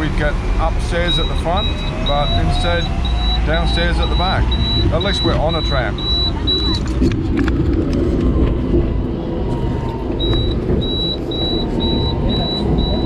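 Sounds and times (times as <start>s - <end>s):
tram running with low rumble: 0.0s - 13.0s.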